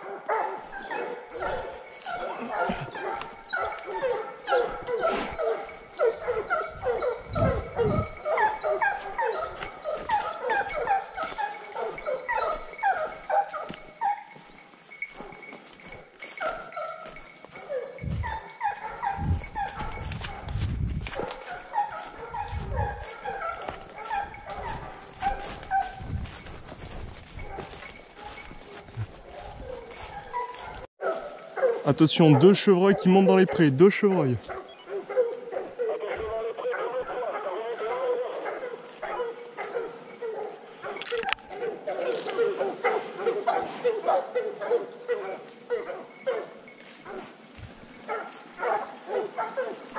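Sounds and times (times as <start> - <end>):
hounds baying: 0.0 - 49.9.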